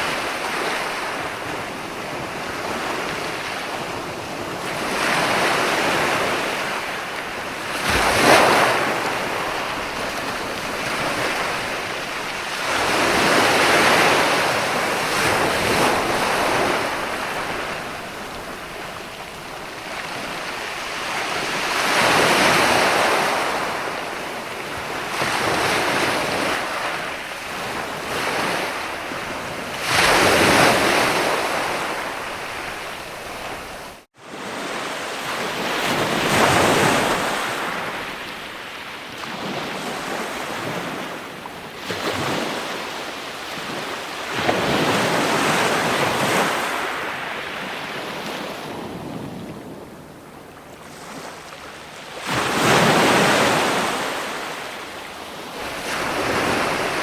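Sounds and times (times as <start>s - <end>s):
ocean waves breaking: 0.0s - 57.0s
wind: 0.0s - 57.0s.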